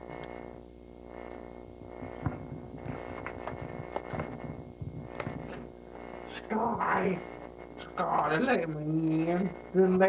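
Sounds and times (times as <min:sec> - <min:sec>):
crackles and clicks: 0:00.0 - 0:10.0
electrical mains hum: 0:00.0 - 0:10.0.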